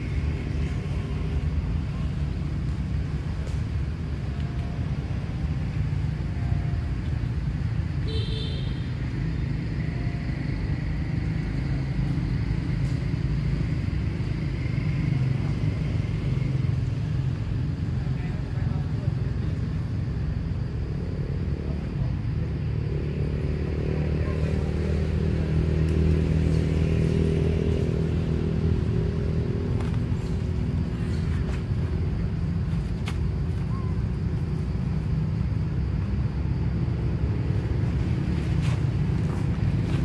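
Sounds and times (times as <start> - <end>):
engine droning: 0.0 - 40.0.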